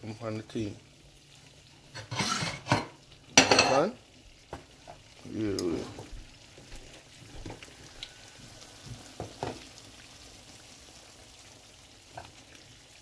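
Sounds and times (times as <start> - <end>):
oil sizzling in a frying pan: 0.0 - 13.0.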